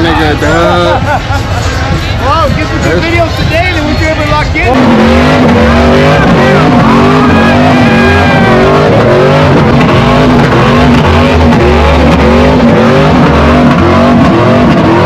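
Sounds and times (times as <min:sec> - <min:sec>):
tires squealing: 0:00.0 - 0:15.0
vehicle engine revving hard: 0:00.0 - 0:15.0.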